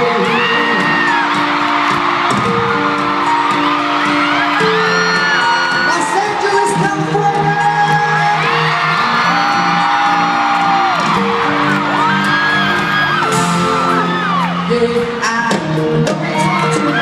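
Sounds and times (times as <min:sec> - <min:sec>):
live pop band over pa: 0:00.0 - 0:17.0.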